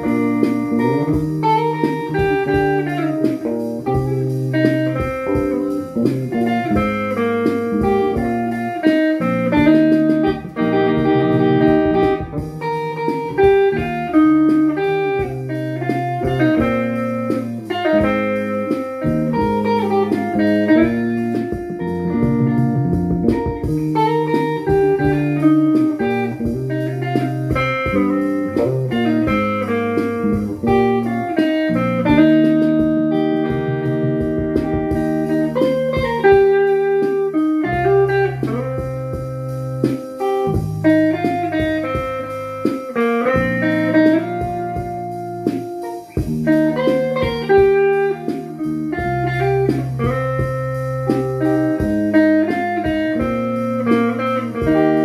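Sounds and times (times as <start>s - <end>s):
accompanying guitar: 0.0s - 55.0s
electric guitar melody: 0.0s - 55.0s.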